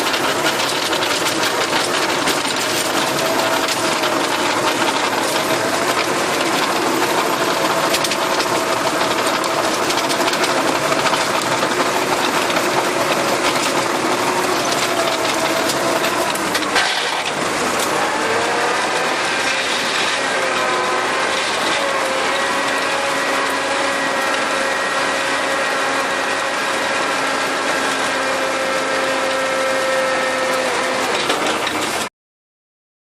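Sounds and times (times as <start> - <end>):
rotary tiller rattling: 0.0 - 32.1
tractor engine running: 0.0 - 32.1.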